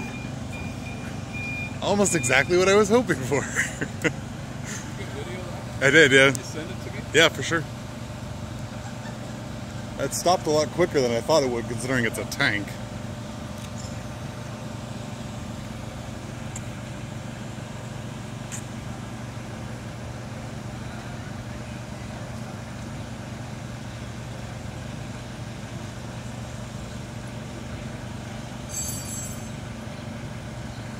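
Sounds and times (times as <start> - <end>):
forklift engine idling: 0.0 - 30.9.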